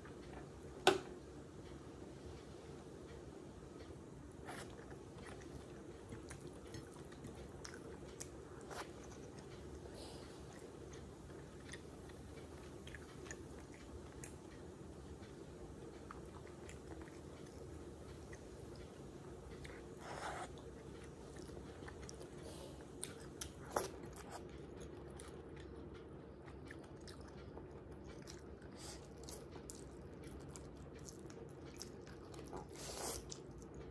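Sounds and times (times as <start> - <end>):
chewing and biting: 3.8 - 33.9.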